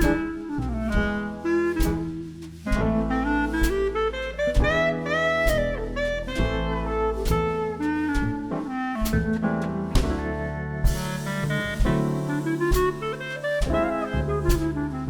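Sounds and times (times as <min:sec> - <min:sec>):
drum kit beat: 0:00.0 - 0:15.0
saxophone melody: 0:00.0 - 0:15.0.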